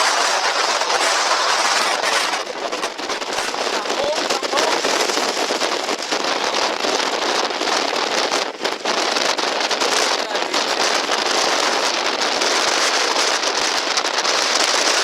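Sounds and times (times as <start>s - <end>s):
small crackles: 0.0s - 15.0s
strong wind rushing: 0.0s - 15.0s.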